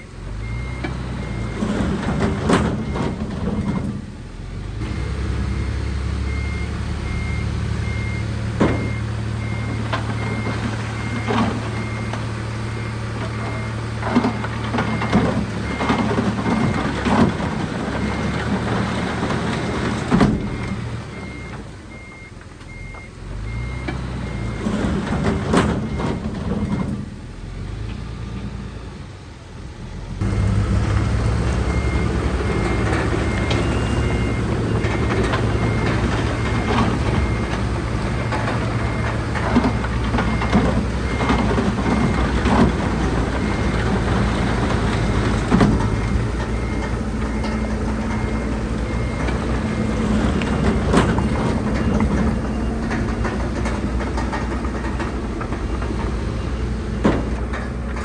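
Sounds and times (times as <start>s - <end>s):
reversing alarm beeping: 0.0s - 3.9s, 4.8s - 27.0s, 30.3s - 58.0s
heavy machinery engines running: 0.0s - 58.0s.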